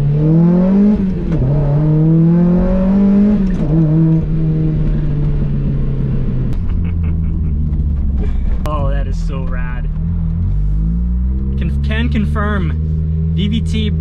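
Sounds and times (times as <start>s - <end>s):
car engine revving through shifts: 0.0s - 14.0s.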